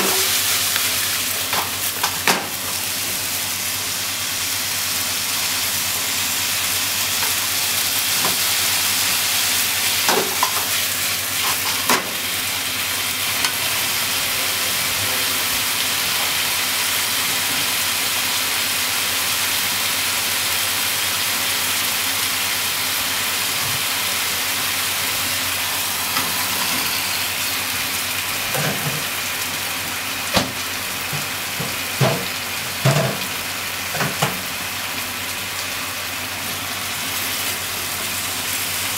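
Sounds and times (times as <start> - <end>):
food sizzling in a frying pan: 0.0 - 38.9.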